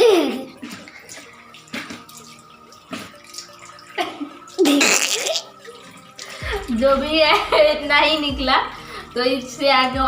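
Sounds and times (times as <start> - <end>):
water running into basin: 0.0 - 10.0.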